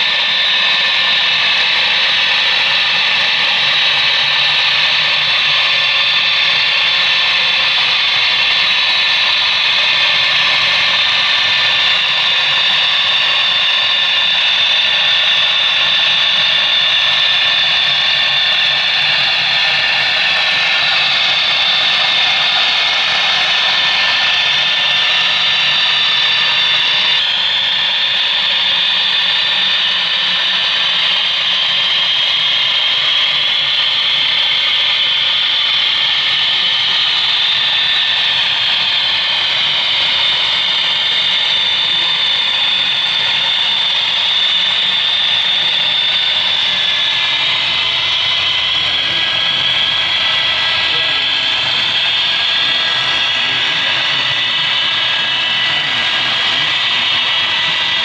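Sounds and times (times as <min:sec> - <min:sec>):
model trains running on track: 0:00.0 - 0:58.0.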